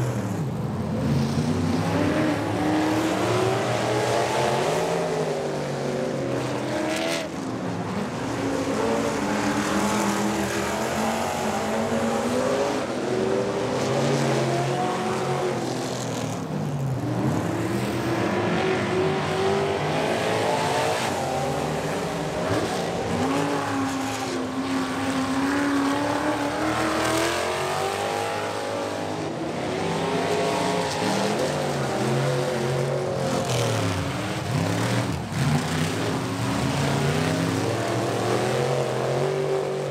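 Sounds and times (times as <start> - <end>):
race truck engines revving: 0.0 - 39.9.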